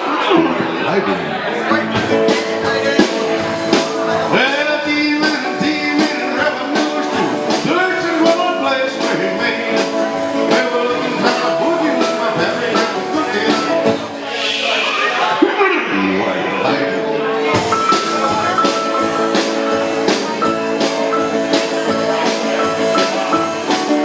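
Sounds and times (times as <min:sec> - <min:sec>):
country band playing live: 0:00.0 - 0:24.0
lead instrument bending notes: 0:01.6 - 0:24.0
steady drum beat: 0:01.8 - 0:15.4, 0:17.5 - 0:24.0.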